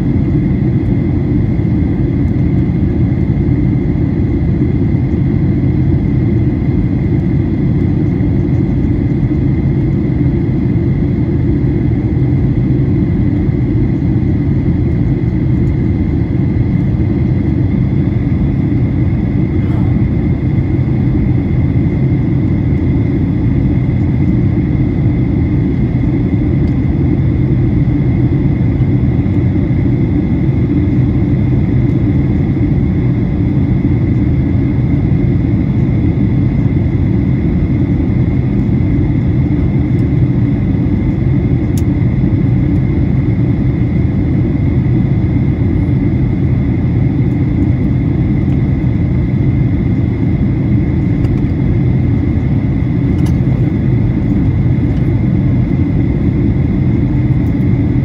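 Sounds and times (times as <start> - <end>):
airplane cabin rumble: 0.0 - 58.0
thin steady whine: 0.0 - 58.0.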